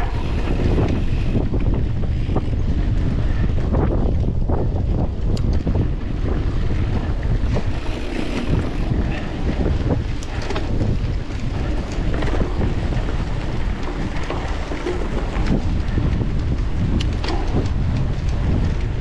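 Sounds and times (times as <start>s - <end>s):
bicycle clicks and rattles: 0.0s - 19.0s
wind buffeting microphone: 0.0s - 19.0s.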